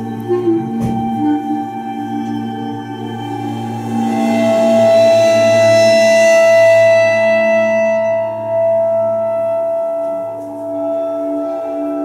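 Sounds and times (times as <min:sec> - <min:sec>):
bowed cymbal ringing: 0:00.0 - 0:12.0.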